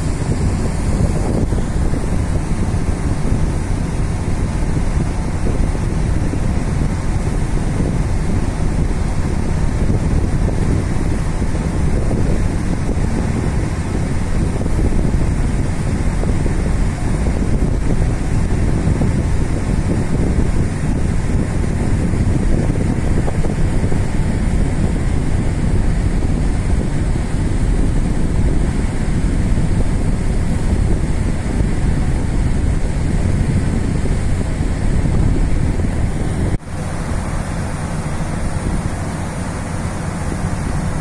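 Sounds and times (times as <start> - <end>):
wind on microphone: 0.0 - 41.0.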